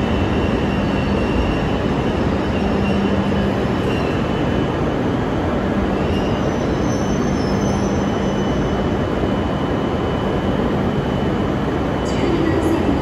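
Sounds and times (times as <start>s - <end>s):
train rumbling into station: 0.0s - 13.0s.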